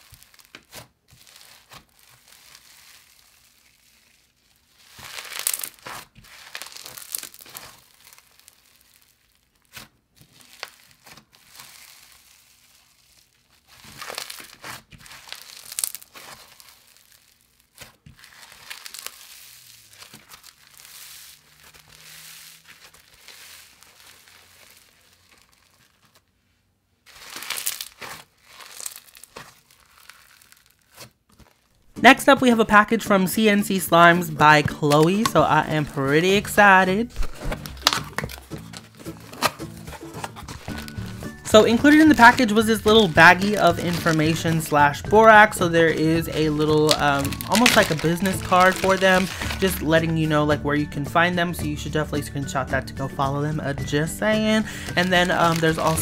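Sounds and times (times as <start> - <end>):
slime with foam beads crackling: 0.0 - 50.4, 53.8 - 56.0.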